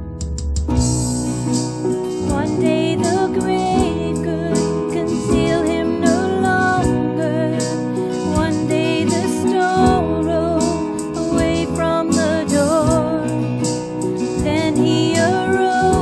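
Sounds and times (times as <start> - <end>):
guitar accompaniment: 0.0 - 16.0
person singing with vibrato: 2.1 - 16.0.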